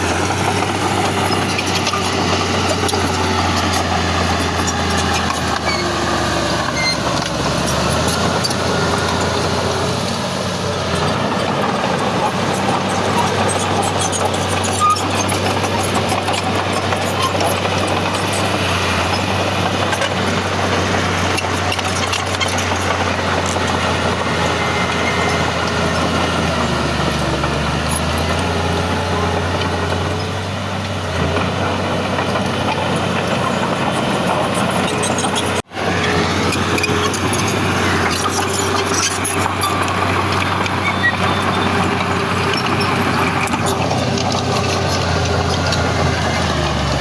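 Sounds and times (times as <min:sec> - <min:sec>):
heavy diesel machinery running: 0:00.0 - 0:47.0.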